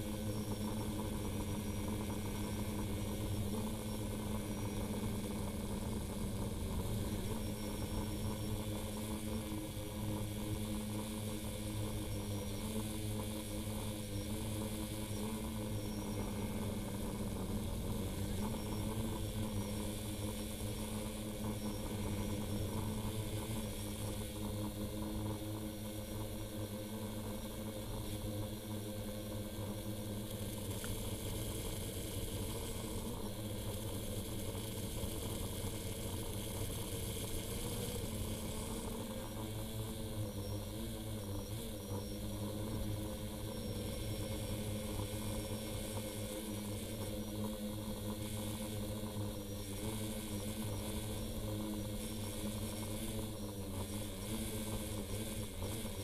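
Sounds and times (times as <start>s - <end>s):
small motors humming: 0.0s - 56.0s.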